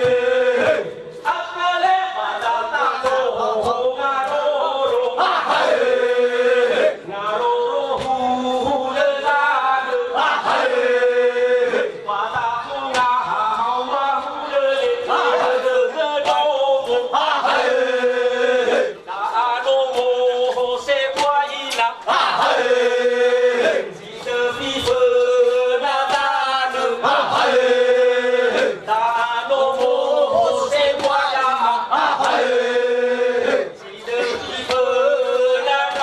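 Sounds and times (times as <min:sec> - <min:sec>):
men chanting together: 0:00.0 - 0:36.0.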